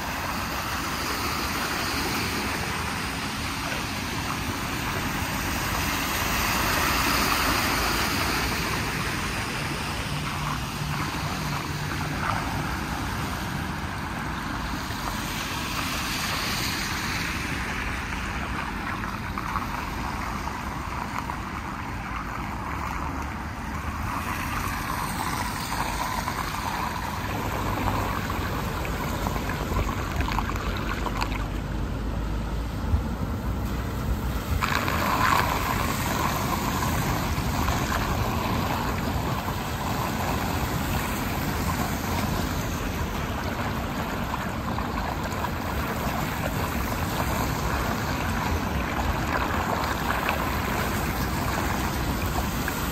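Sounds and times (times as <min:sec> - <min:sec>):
tyres splashing through water: 0:00.0 - 0:52.9
water rushing into drain: 0:00.0 - 0:52.9.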